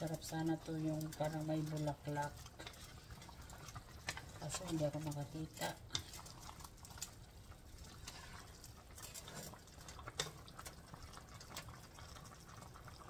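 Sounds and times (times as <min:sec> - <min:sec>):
wet sloshing of stirred stew: 0:00.1 - 0:13.0.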